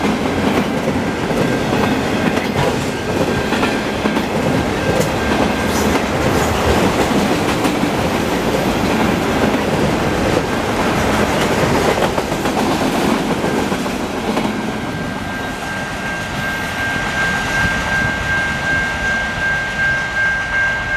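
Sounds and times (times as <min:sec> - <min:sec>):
freight cars rolling on rails: 0:00.0 - 0:19.0.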